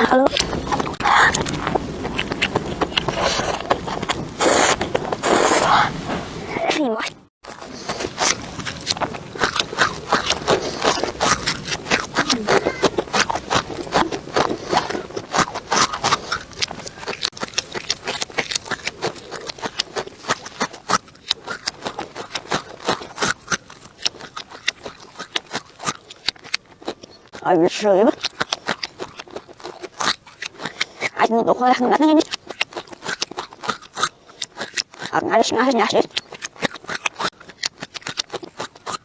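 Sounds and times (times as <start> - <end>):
crunching and chewing crispy food: 0.0 - 5.9, 7.4 - 39.0.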